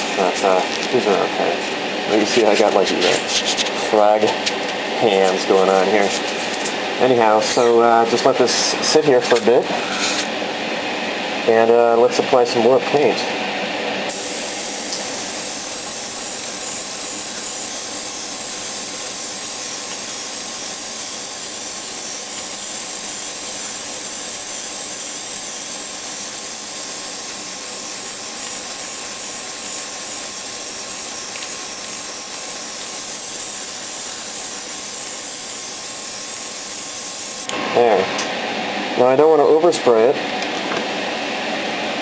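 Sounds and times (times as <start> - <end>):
airbrush spraying air hiss: 0.0 - 10.7, 14.1 - 38.4.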